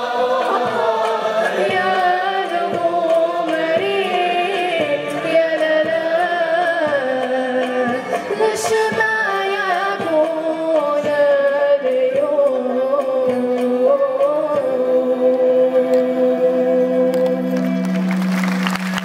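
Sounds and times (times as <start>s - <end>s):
woman singing: 0.0s - 17.6s
plucked string ensemble: 0.0s - 19.0s.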